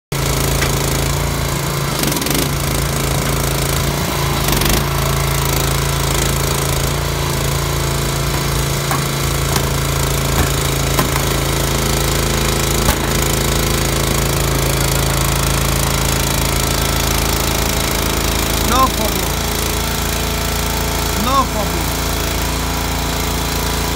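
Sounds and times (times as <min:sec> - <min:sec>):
truck engine running: 0:00.1 - 0:23.9
hydraulic lift rattling drone: 0:00.2 - 0:23.9.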